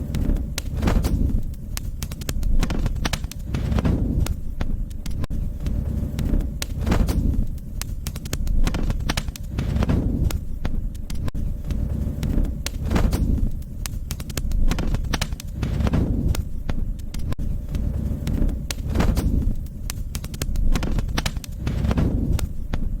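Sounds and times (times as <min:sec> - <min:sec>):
low fire rumble: 0:00.0 - 0:23.0
wood fire crackling and popping: 0:00.0 - 0:23.0.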